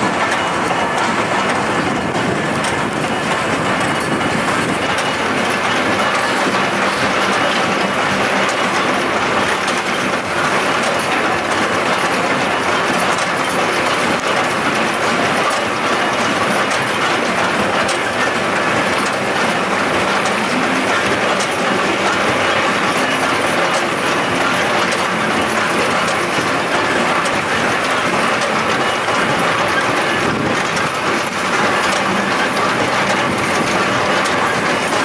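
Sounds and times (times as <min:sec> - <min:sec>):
baler mechanical clatter: 0:00.0 - 0:35.0
tractor diesel engine running: 0:00.0 - 0:35.0.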